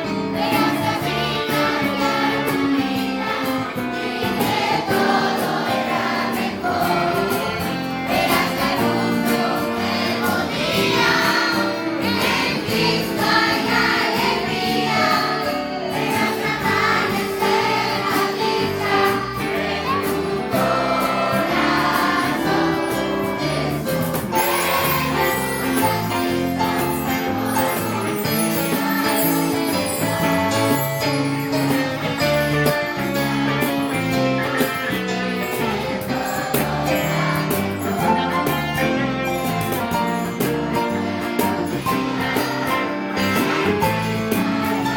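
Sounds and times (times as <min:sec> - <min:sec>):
band playing: 0:00.0 - 0:44.9
children's choir singing: 0:00.0 - 0:44.9.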